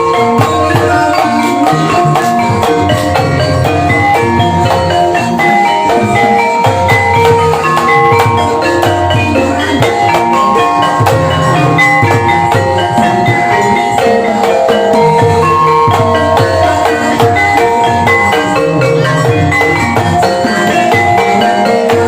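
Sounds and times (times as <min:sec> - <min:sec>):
drums: 0:00.0 - 0:22.0
gamelan keyed instruments: 0:00.0 - 0:22.0.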